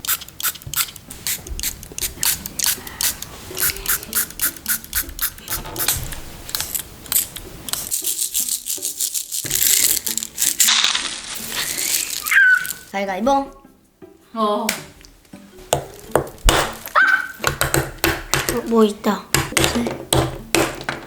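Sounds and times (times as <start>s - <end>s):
light background music: 0.4s - 21.0s.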